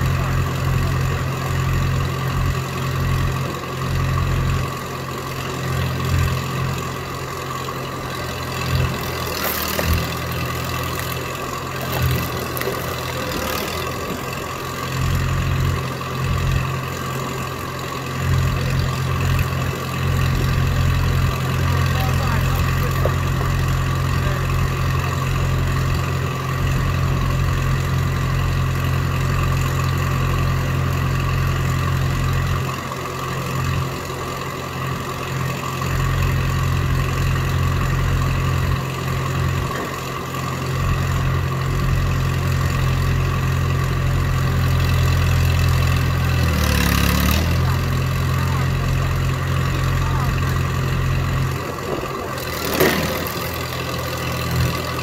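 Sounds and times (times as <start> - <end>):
log splitter engine running: 0.0 - 55.0.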